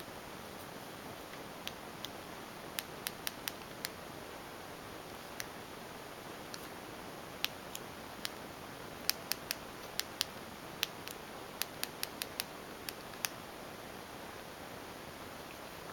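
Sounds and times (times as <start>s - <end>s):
faint steady hiss: 0.0s - 15.9s.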